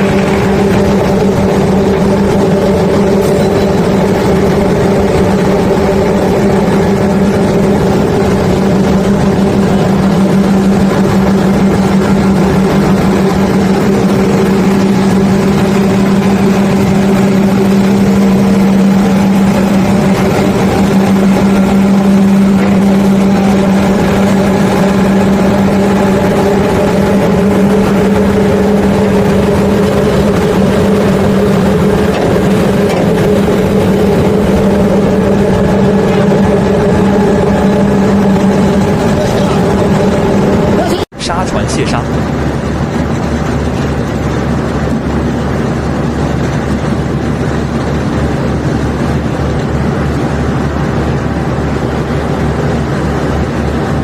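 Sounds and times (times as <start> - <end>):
constant rushing noise: 0.0 - 54.0
heavy engine running: 0.0 - 54.0.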